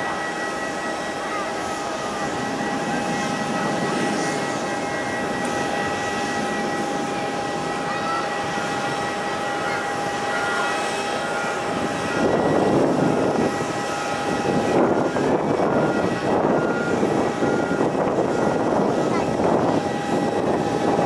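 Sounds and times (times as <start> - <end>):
jet engines roaring with whine: 0.0 - 21.0.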